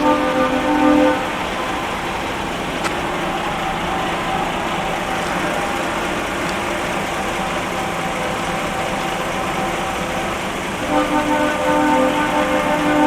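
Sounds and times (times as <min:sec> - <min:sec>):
lorry diesel engines running: 0:00.0 - 0:13.0.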